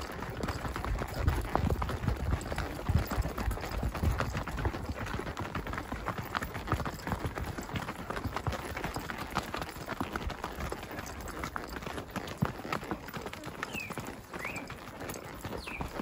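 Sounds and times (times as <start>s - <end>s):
hooves clip-clopping on dirt: 0.0s - 16.0s.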